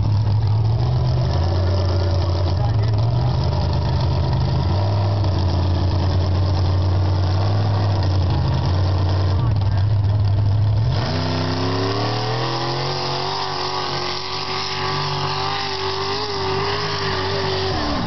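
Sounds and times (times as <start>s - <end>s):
low engine rumble: 0.0s - 15.3s
buggy engine revving: 0.0s - 18.0s.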